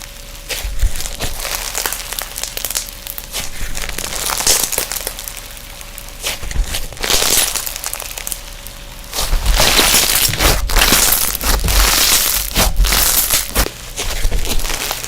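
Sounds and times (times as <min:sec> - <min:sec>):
slime crackling when squeezed: 0:00.0 - 0:15.0.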